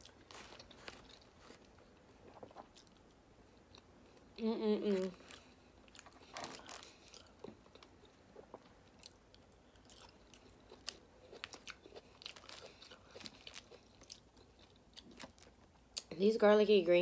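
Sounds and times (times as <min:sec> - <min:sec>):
person chewing food: 0:00.0 - 0:16.1.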